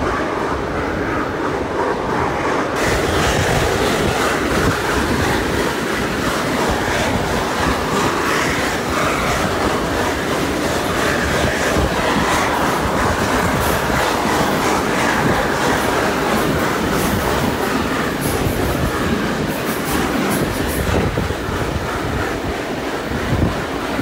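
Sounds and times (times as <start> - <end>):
train wheels on rails: 0.0 - 24.0
wind on microphone: 0.0 - 24.0.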